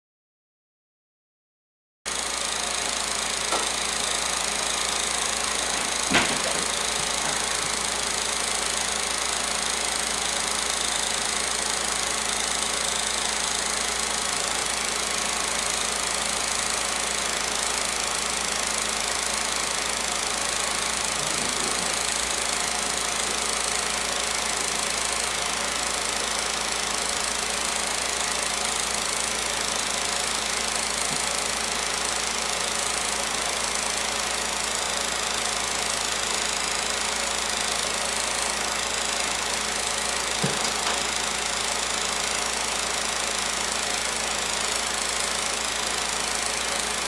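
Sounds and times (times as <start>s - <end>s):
film projector whirring: 2.1s - 47.0s.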